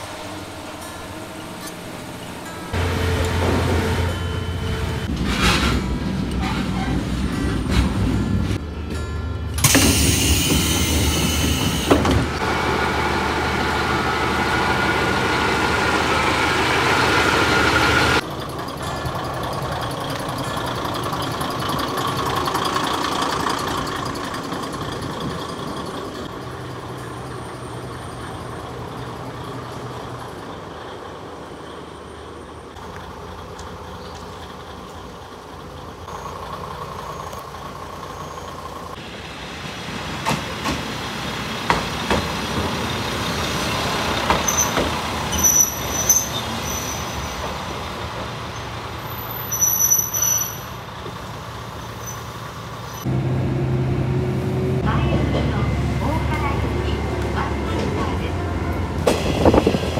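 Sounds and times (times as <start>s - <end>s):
diesel railcar engine idling: 0.0s - 59.9s.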